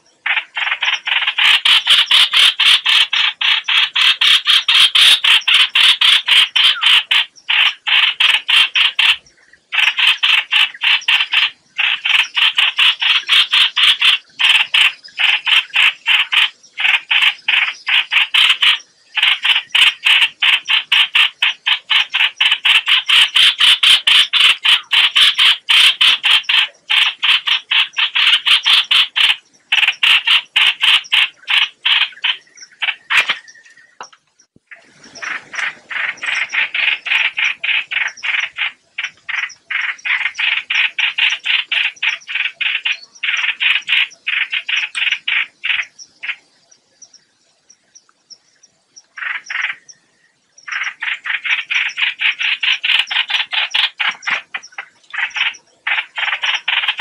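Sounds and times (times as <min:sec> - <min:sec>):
bird harsh chattering calls: 0:00.0 - 0:34.1, 0:34.7 - 0:47.1, 0:49.0 - 0:57.0.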